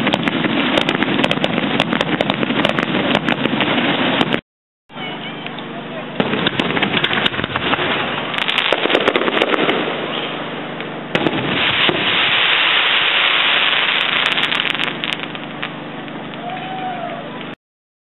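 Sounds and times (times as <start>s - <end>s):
fireworks cracking and banging: 0.0s - 4.4s, 5.0s - 17.6s
fireworks crackling: 0.0s - 4.4s, 5.0s - 17.6s
loud firework burst: 0.0s - 4.4s, 6.1s - 17.5s.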